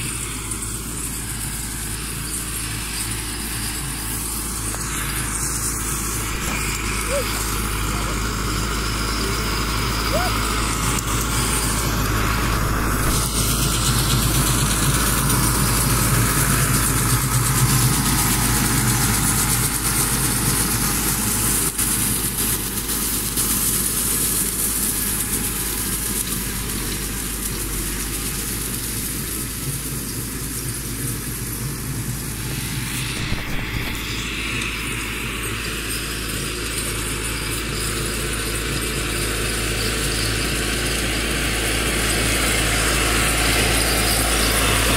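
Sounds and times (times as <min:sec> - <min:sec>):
cutter working through straw: 0:00.0 - 0:44.9
tractor diesel engine running: 0:00.0 - 0:44.9.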